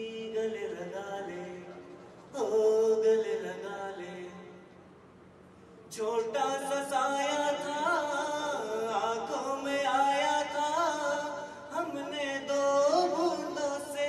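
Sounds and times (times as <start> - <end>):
man singing into microphone: 0.0 - 4.6, 5.9 - 14.0.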